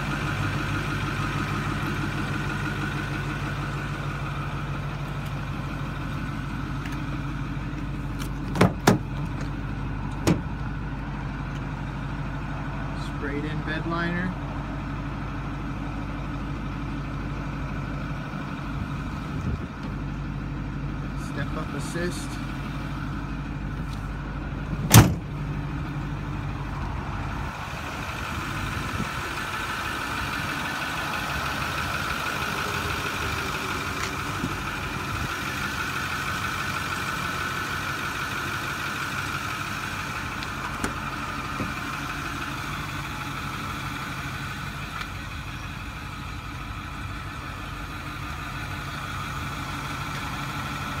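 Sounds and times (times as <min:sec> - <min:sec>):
pickup truck engine running: 0:00.0 - 0:51.0.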